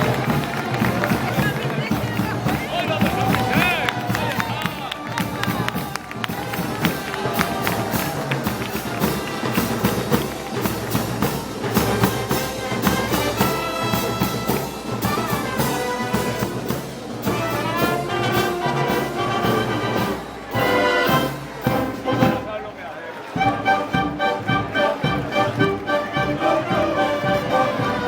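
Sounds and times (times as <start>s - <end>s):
drum and cymbal beat: 0.0s - 22.5s
brass band playing march: 0.0s - 28.0s.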